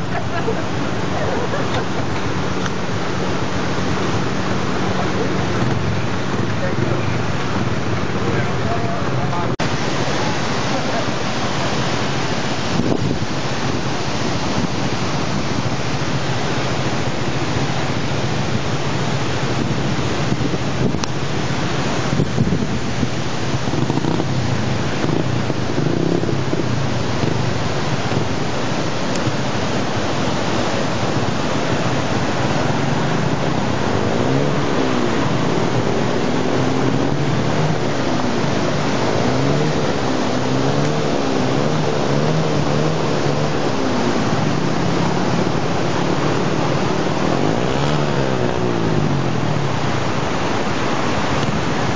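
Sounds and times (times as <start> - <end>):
motorcycle engine revving: 0.0 - 51.9
river water rushing over rocks: 0.0 - 51.9.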